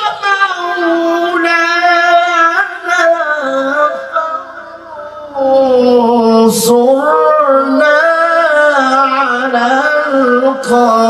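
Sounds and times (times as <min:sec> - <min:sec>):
man reciting melodically over pa: 0:00.0 - 0:11.0.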